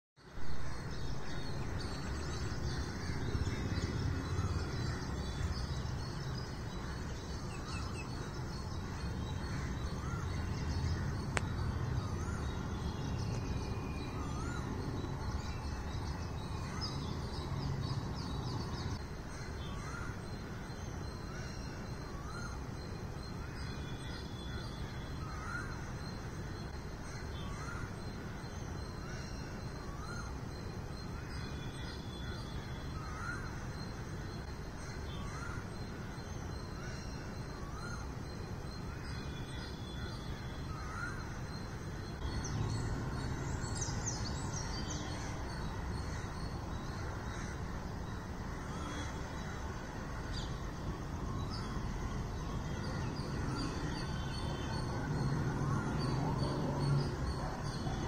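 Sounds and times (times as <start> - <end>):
distant city traffic hum: 0.3 - 58.0
birds chirping and singing: 0.6 - 58.0.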